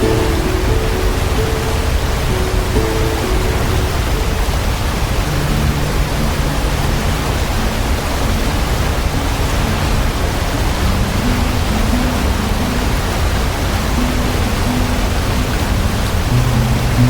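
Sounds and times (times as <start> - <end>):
soft low held notes: 0.0 - 17.0
waterfall roaring: 0.0 - 17.0.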